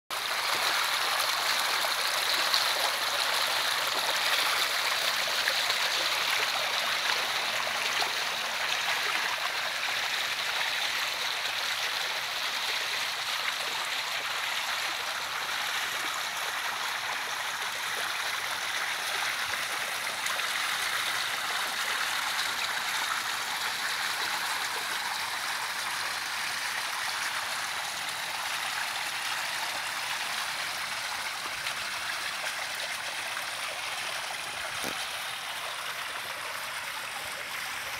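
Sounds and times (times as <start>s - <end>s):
pool water splashing and trickling: 0.1s - 37.9s.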